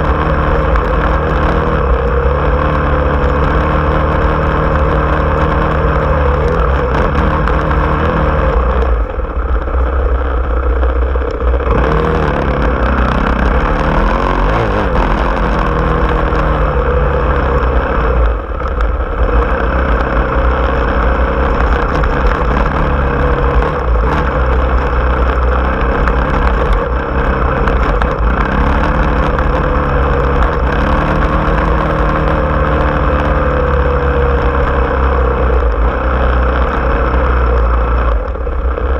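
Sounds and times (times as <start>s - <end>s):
off-road vehicle engine: 0.0s - 38.9s.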